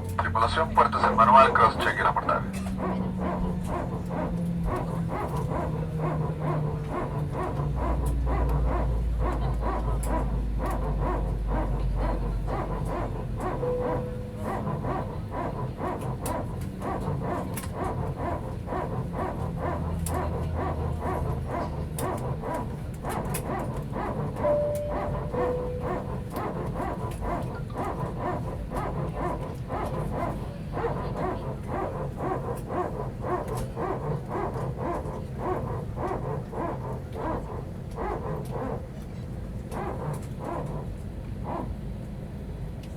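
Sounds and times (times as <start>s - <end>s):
cabin air hum: 0.0s - 42.2s
passengers clattering and rustling: 0.0s - 42.9s.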